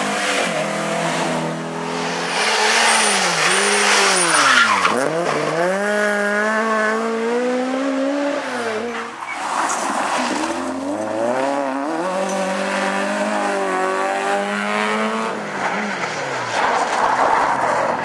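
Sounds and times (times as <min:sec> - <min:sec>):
tyres rushing on road surface: 0:00.0 - 0:07.9, 0:08.6 - 0:18.0
rally car engine revving: 0:00.0 - 0:18.0.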